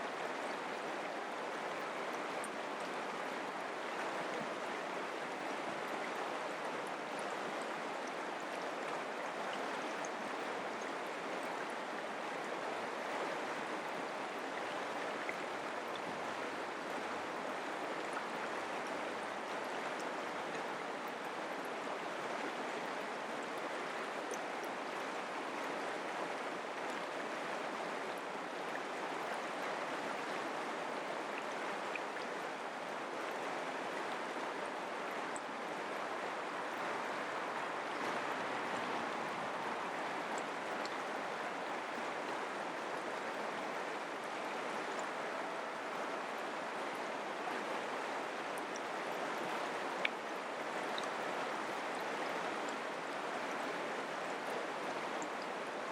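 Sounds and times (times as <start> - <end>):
creek water rushing: 0.0 - 55.9.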